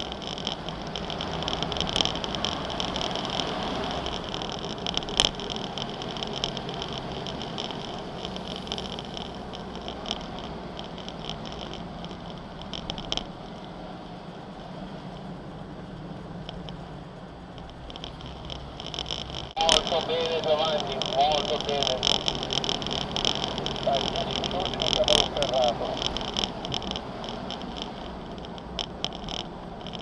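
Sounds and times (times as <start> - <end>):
vehicle driving on dirt track: 0.0 - 30.0.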